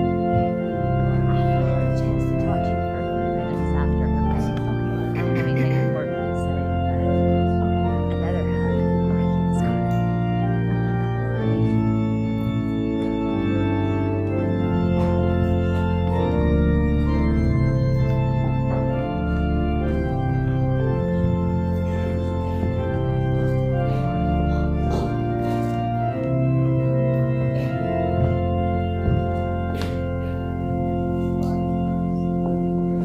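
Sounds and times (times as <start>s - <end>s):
organ playing slow chords: 0.0s - 33.0s.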